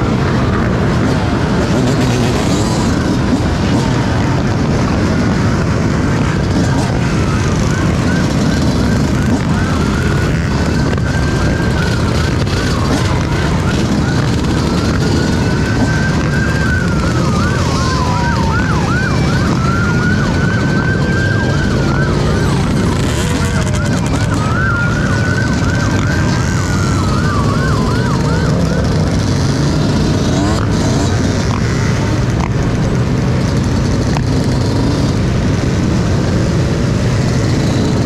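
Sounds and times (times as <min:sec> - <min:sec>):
police siren wailing and yelping: 0:00.0 - 0:38.0.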